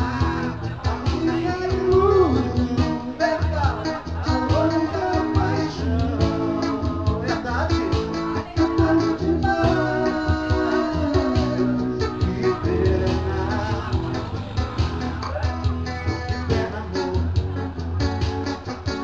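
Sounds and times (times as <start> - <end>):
bass: 0.0 - 19.0
drums: 0.0 - 19.0
guitar playing: 0.0 - 19.0.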